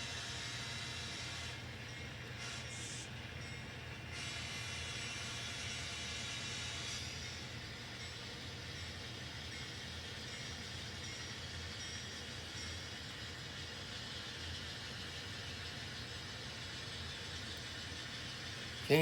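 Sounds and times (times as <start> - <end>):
model trains rolling and humming: 0.0 - 19.0.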